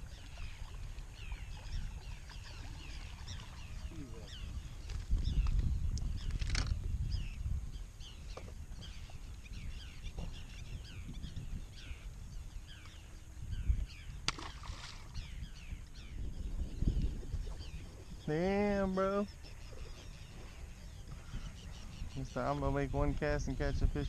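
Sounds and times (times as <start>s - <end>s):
birds chirping: 0.0s - 24.0s
wind rumbling on microphone: 0.0s - 24.0s.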